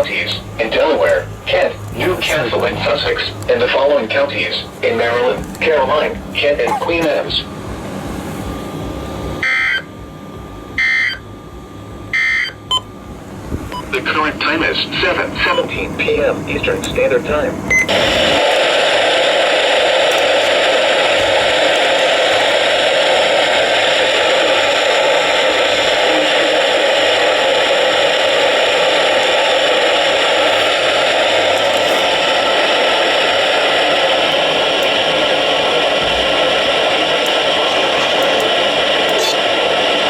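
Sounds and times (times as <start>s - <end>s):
radio static hiss: 0.0s - 7.5s, 13.8s - 40.0s.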